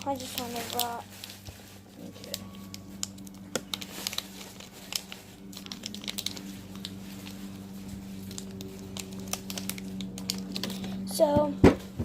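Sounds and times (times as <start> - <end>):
plastic packet crinkling: 0.0 - 11.1
slime squishing: 0.0 - 11.1
low hum: 0.0 - 12.0.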